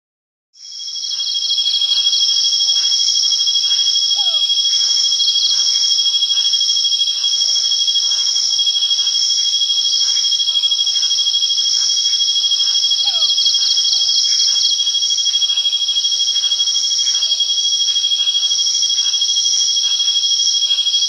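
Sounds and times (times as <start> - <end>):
crickets chirping: 0.6 - 21.0.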